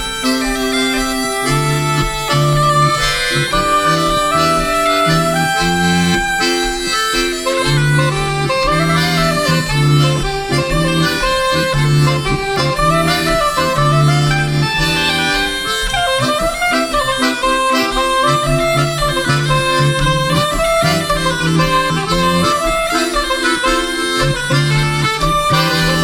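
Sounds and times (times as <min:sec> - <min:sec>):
folk band playing dance tune: 0:00.0 - 0:26.0.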